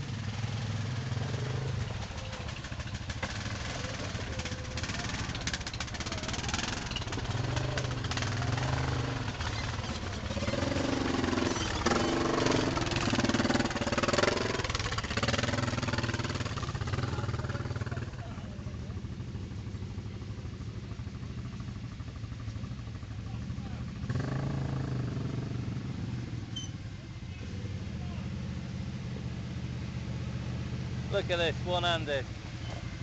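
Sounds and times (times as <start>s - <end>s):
quad bike engines running: 0.0s - 33.0s.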